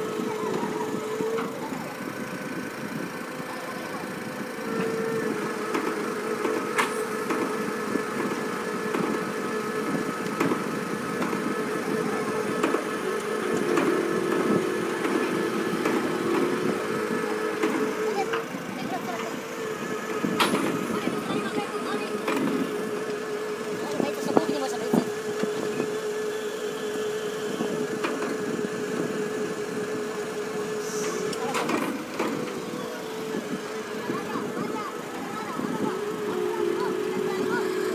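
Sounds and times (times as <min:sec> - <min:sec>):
crane machinery whine: 0:00.0 - 0:37.9
diesel engine running: 0:00.0 - 0:37.9.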